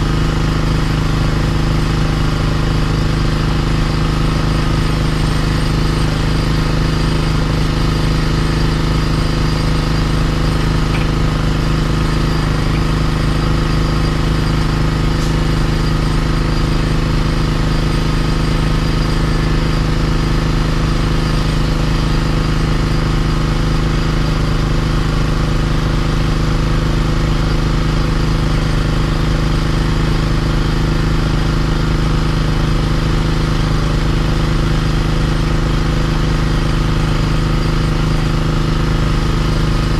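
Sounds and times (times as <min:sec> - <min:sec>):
power unit engine running: 0:00.0 - 0:39.9.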